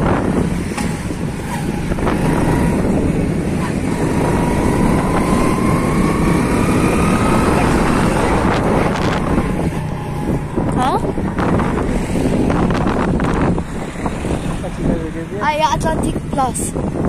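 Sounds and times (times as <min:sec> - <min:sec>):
vehicle engine and road noise: 0:00.0 - 0:17.0
wind rushing over microphone: 0:00.0 - 0:17.0.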